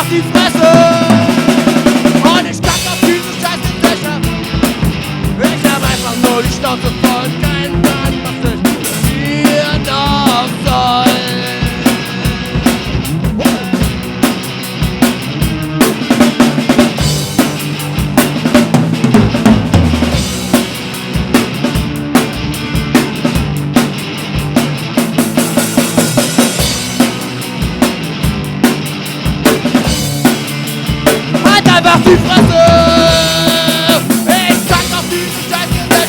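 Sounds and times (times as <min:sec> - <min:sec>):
punk rock drum beat: 0:00.0 - 0:36.0.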